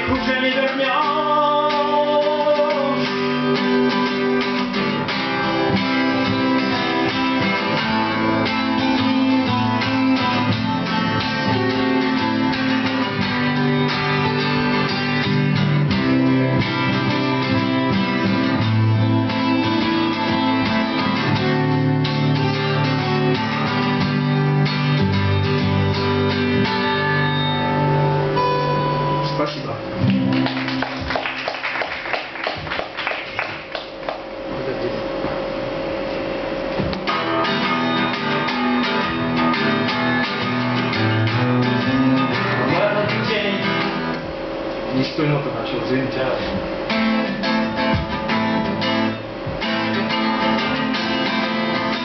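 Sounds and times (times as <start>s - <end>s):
picked guitar lead line: 0.0s - 52.0s
strummed acoustic guitar chords: 0.0s - 52.0s.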